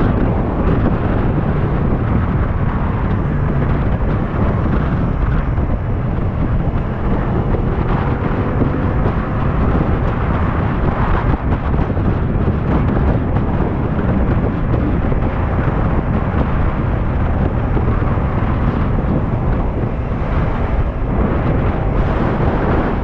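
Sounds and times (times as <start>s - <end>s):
motorcycle engine: 0.0s - 23.0s
wind buffeting microphone: 0.0s - 23.0s.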